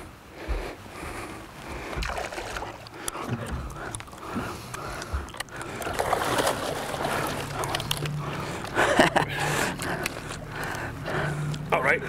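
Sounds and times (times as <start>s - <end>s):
low hum: 0.0s - 12.0s
fish thrashing and splashing water: 1.8s - 11.6s.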